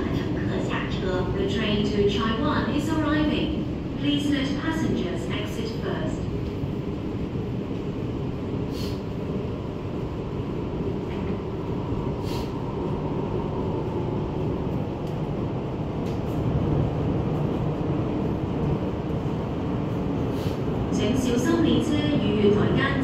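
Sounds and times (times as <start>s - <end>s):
metro train rumbling: 0.0s - 23.0s.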